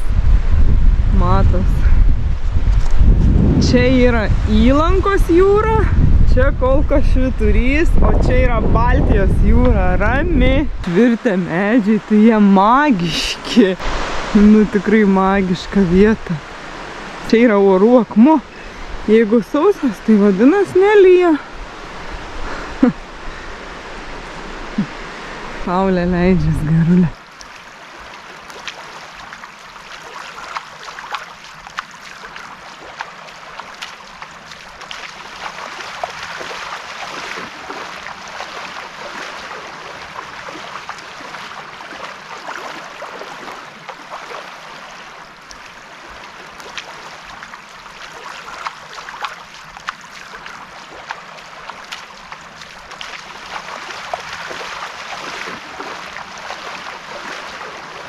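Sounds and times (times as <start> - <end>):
sea lapping at shore: 0.0 - 58.0.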